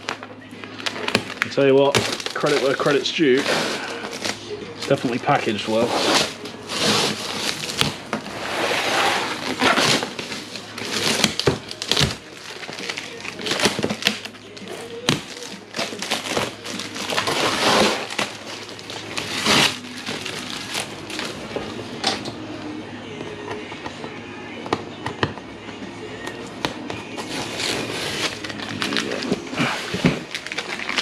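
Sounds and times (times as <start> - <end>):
plastic and cardboard crinkling: 0.0 - 22.4, 26.3 - 31.0.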